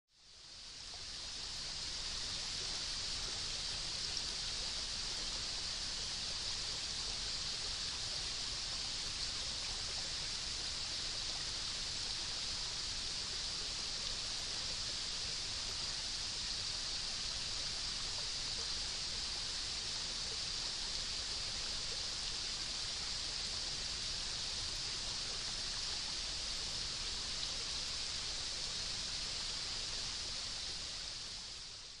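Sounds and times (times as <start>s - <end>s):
stream hissing: 0.2s - 32.0s.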